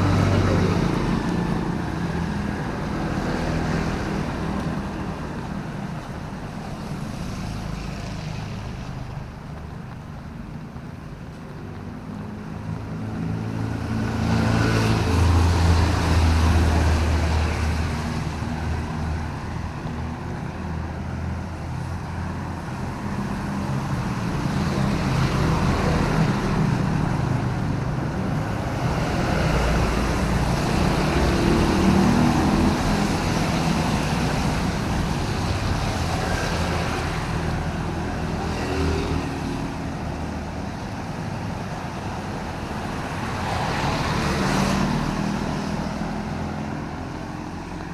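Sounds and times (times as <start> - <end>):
tyres hissing on wet road: 0.0 - 47.9
vehicle engines humming: 0.0 - 47.9
vehicles passing: 0.0 - 47.9.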